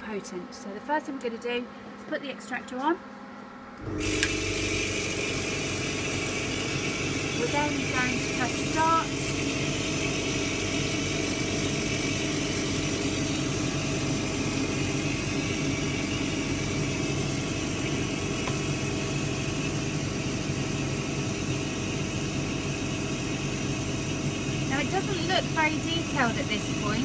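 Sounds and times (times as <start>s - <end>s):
extractor fan whirring: 0.0s - 27.0s.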